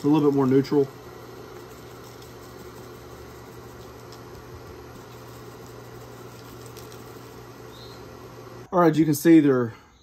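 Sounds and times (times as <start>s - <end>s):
machine humming and hissing: 0.0s - 8.7s.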